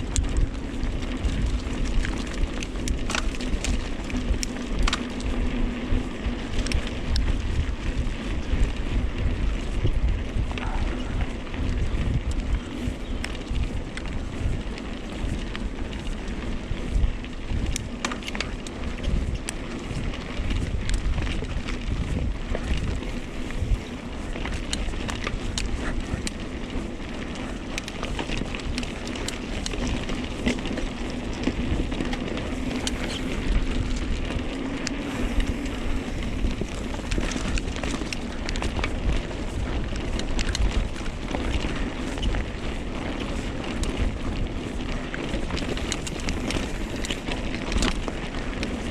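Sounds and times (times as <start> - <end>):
bike clicks and rattles: 0.0 - 48.9
bike tyres crunching on dirt: 0.0 - 48.9
wind buffeting microphone: 0.0 - 48.9.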